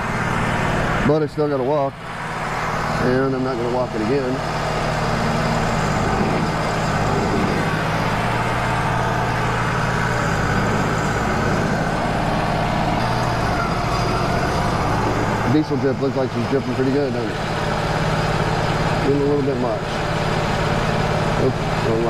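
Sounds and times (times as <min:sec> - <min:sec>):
sawmill engine running: 0:00.0 - 0:22.0.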